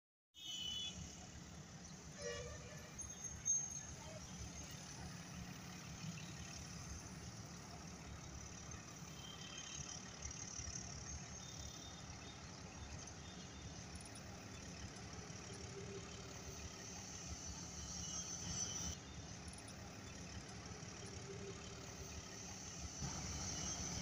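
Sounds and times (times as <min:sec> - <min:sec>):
diesel locomotive engine rumble: 0:00.4 - 0:24.0.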